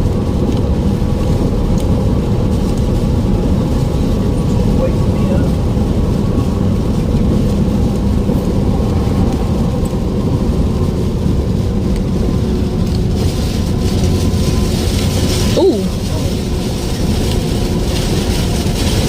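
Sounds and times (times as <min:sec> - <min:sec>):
low rumble of storm wind: 0:00.0 - 0:19.0
rain hiss: 0:00.8 - 0:19.0.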